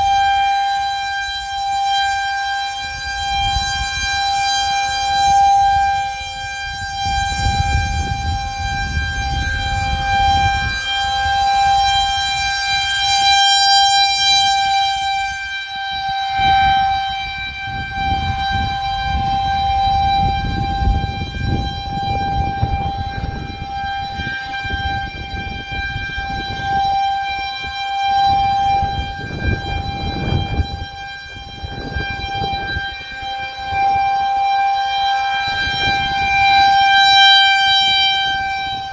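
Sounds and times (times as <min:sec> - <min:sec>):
rotating warning siren steady tone: 0:00.0 - 0:38.9.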